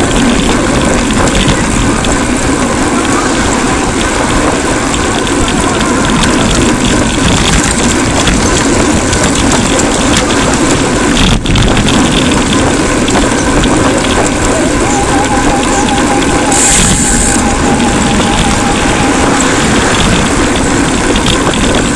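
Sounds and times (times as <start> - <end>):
road noise: 0.0 - 21.9
wind rushing: 0.0 - 21.9.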